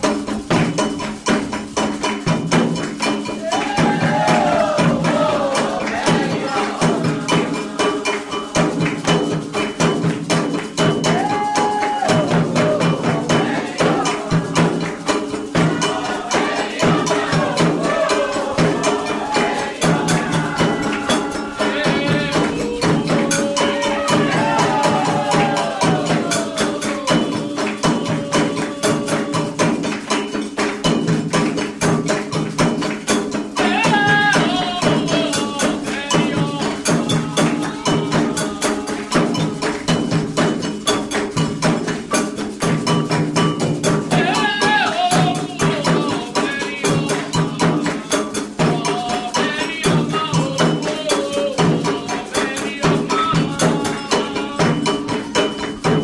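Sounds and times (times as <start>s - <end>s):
hand drums and percussion: 0.0s - 56.0s
voices singing: 2.8s - 42.9s, 43.5s - 56.0s.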